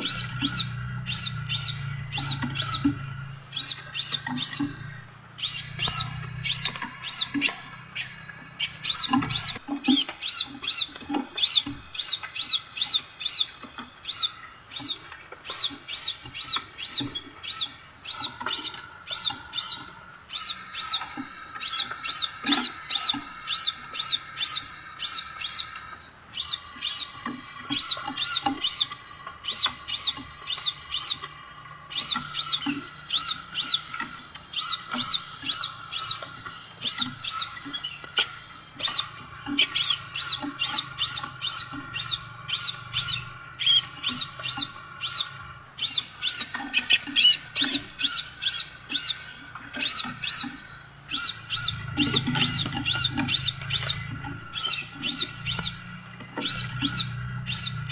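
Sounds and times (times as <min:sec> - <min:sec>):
bird high chirps: 0:00.0 - 0:57.9.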